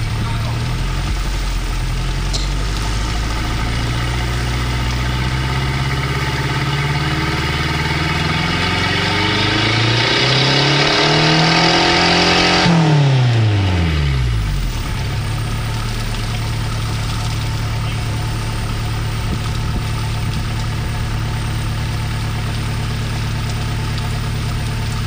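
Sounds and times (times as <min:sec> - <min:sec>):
diesel engine idling and revving: 0:00.0 - 0:25.0.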